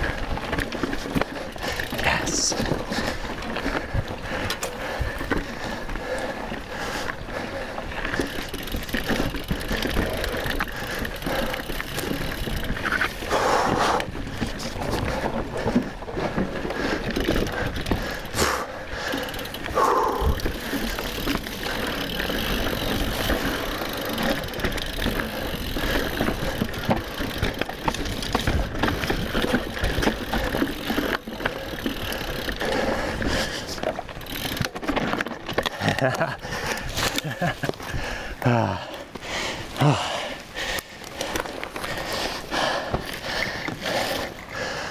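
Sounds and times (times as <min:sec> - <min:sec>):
bike chain and frame rattling: 0:00.0 - 0:44.9
bike tyres on dirt and rocks: 0:00.0 - 0:44.9.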